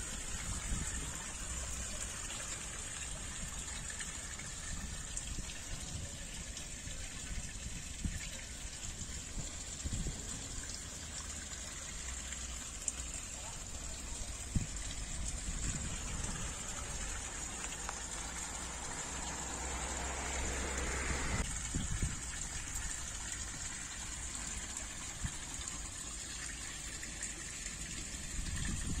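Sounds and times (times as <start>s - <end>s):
water splashing into pool: 0.0s - 29.0s.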